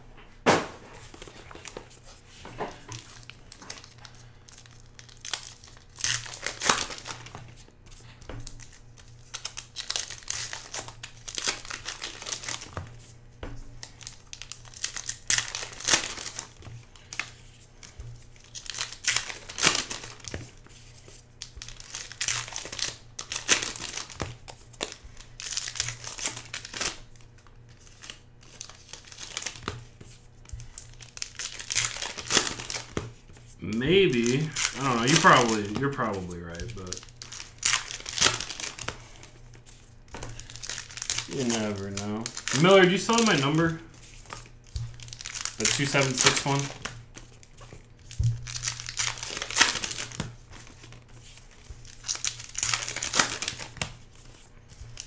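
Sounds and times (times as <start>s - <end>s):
card pack wrappers tearing: 2.7s - 13.0s, 13.7s - 55.0s.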